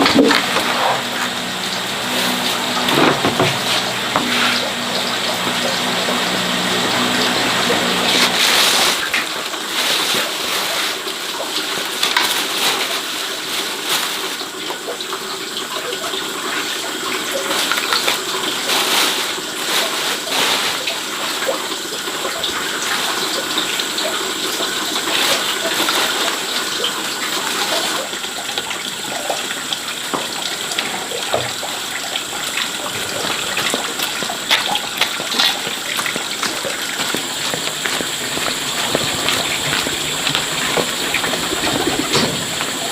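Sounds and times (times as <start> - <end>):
water gushing: 0.0 - 42.9.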